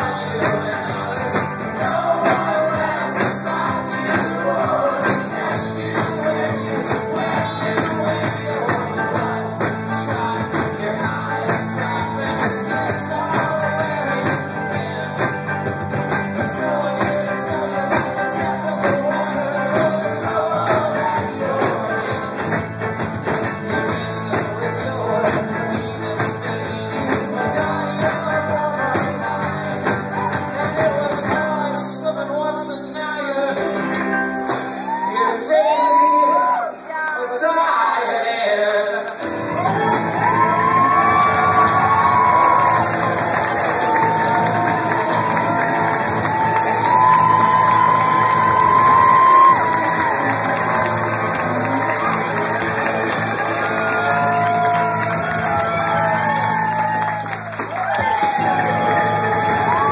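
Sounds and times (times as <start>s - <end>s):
voices singing and shouting: 0.0s - 33.7s, 34.7s - 59.9s
bass: 0.0s - 36.9s, 39.1s - 59.9s
drums: 0.0s - 37.1s, 38.9s - 59.9s
electric guitar: 0.0s - 37.3s, 38.8s - 59.9s.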